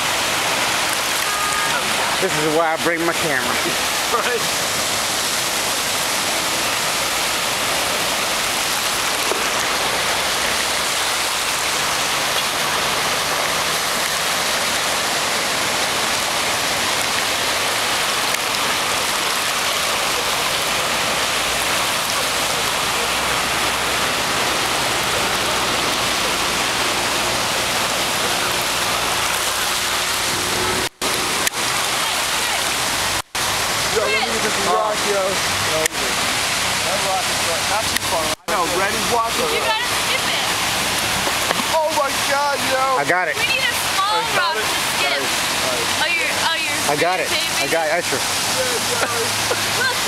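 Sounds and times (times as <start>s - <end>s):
floodwater rushing: 0.0s - 50.0s.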